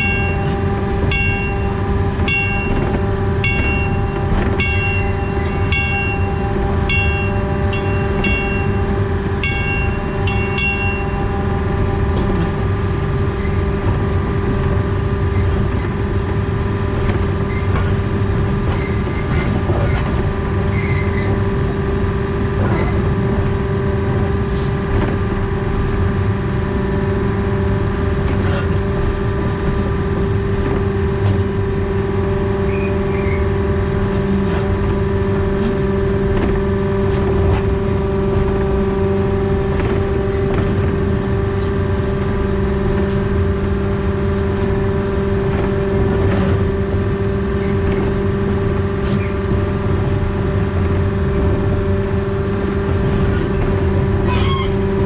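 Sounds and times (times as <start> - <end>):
locomotive diesel engine droning: 0.0 - 55.0
rail and wheel noise: 0.0 - 55.0.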